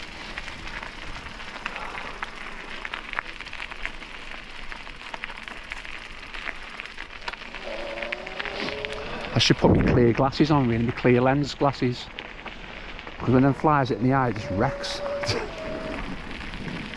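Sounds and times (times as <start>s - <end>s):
bicycle tyres rolling on rough path: 0.0s - 16.9s.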